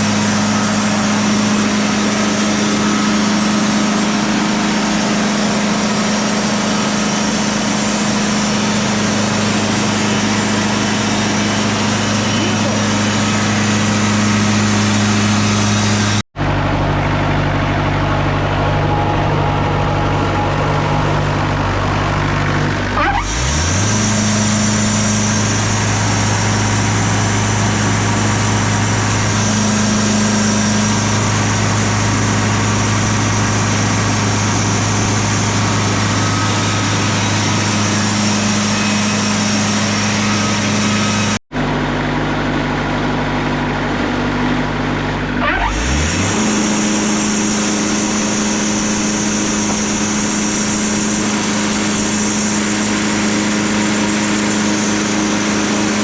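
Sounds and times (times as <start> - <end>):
bandsaw mill engine running: 0.0 - 56.0.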